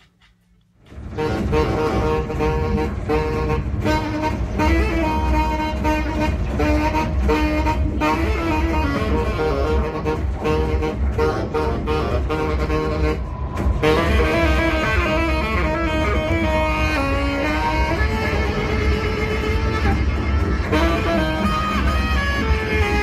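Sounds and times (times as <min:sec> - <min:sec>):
low bass drone: 0:00.8 - 0:23.0
saxophone playing: 0:00.9 - 0:23.0.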